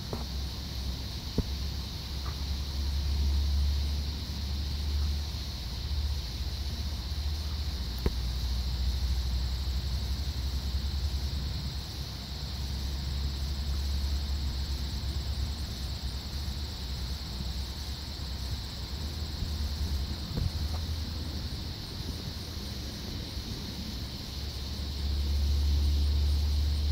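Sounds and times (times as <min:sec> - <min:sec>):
insect chorus: 0:00.0 - 0:26.9.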